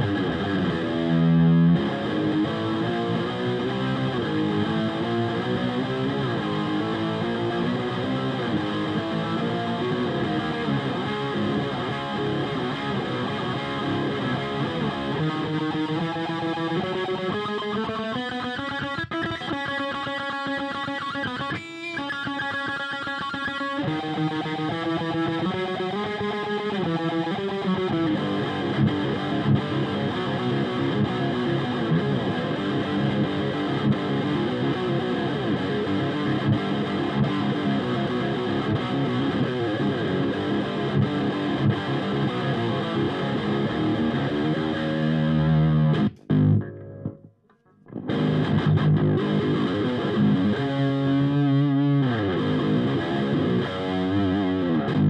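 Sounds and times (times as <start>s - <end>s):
distorted electric guitar riffing: 0.0s - 55.0s.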